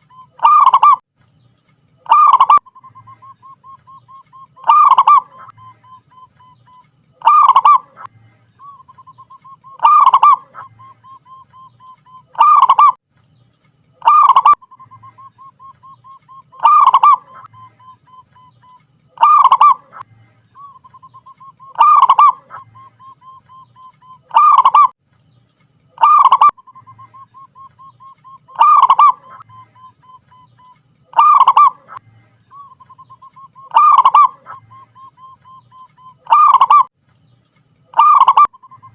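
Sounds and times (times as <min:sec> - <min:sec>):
dove singing and cooing: 0:00.0 - 0:01.0, 0:02.0 - 0:13.0, 0:14.0 - 0:24.9, 0:26.0 - 0:36.9, 0:37.9 - 0:38.9.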